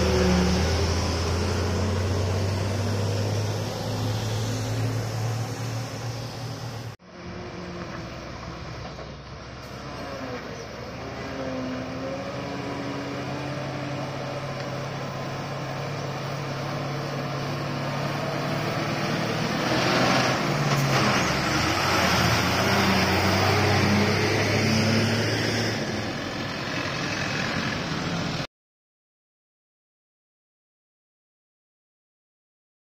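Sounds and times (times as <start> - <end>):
truck diesel engine labouring: 0.0 - 28.5.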